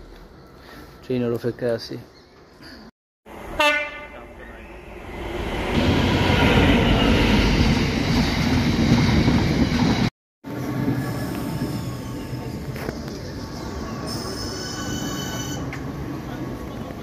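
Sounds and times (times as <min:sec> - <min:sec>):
freight train rumbling past: 0:03.3 - 0:17.0.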